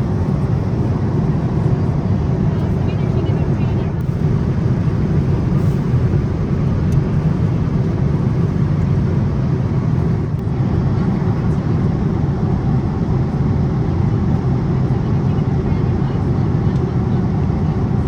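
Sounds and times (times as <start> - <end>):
vehicle rumble from inside: 0.0 - 18.0.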